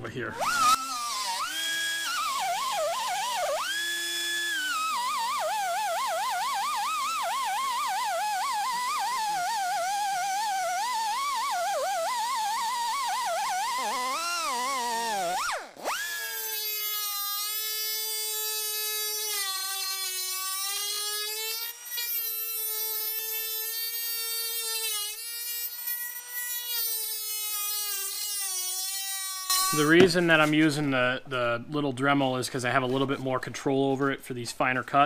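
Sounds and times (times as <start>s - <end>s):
pneumatic grinder whining: 0.0s - 30.6s
rotary tool cutting sheet metal: 0.2s - 30.8s.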